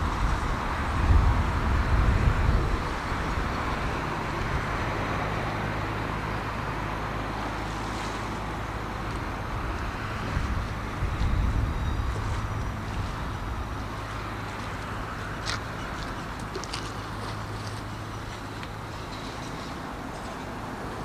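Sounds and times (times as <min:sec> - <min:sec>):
wind buffeting microphone: 0:00.0 - 0:06.2, 0:08.4 - 0:21.0
steady outdoor rushing noise: 0:00.0 - 0:21.0.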